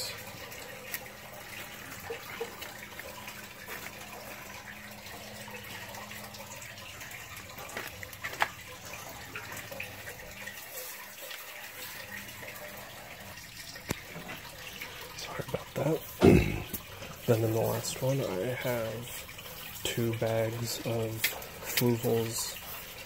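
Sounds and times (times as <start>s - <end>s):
water running: 0.0s - 23.0s.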